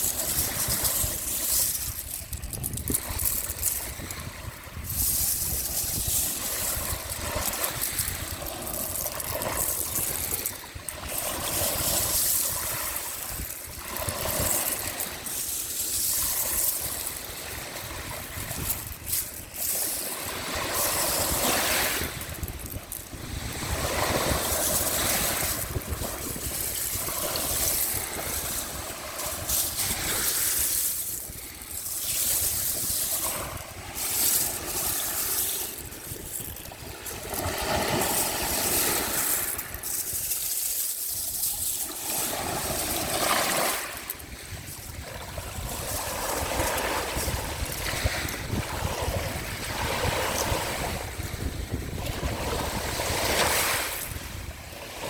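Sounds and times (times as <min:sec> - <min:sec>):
sea waves washing ashore: 0:00.0 - 0:55.0
wind rumbling on microphone: 0:00.0 - 0:55.0.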